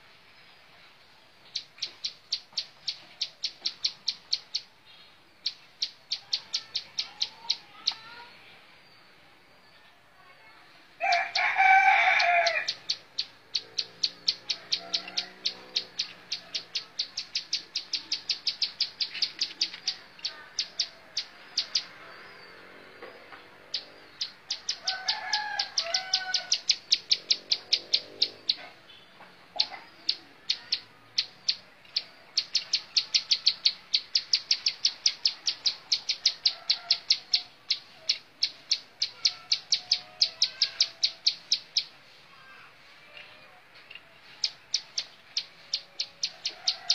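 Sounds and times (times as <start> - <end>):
bird high ticking song: 1.4 - 8.3, 11.1 - 42.2, 43.9 - 46.9.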